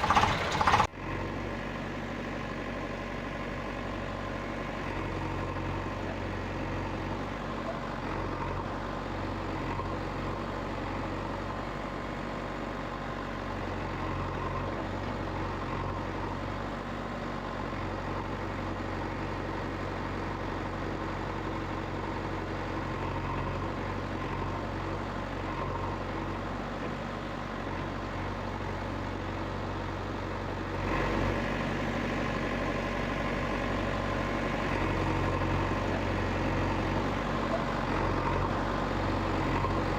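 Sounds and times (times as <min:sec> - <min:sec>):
heavy vehicle engine humming: 0:00.0 - 0:39.9.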